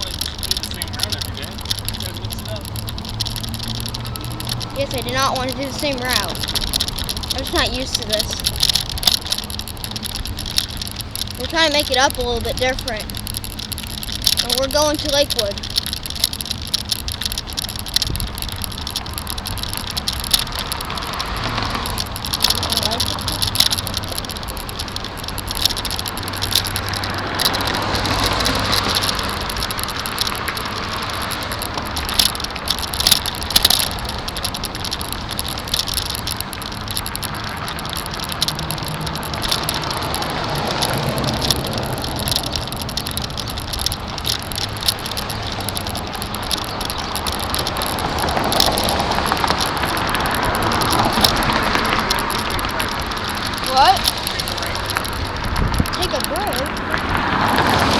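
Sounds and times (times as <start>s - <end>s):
bicycle rattling over bumps: 0.0s - 57.9s
bicycle tyre noise: 0.0s - 57.9s
wind noise: 0.0s - 57.9s.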